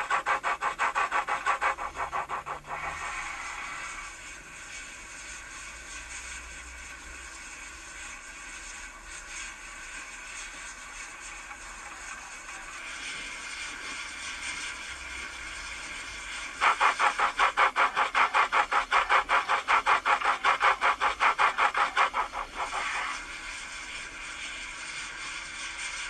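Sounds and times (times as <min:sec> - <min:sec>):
model locomotive chuffing: 0:00.0 - 0:26.0
model locomotive running: 0:00.0 - 0:26.0.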